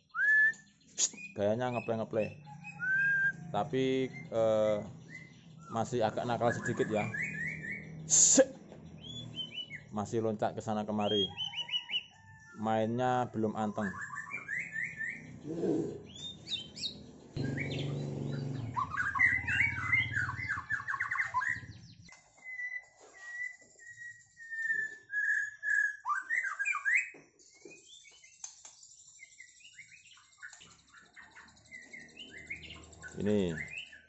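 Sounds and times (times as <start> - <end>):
bird singing chirped phrases: 0.0 - 22.8, 23.8 - 34.0.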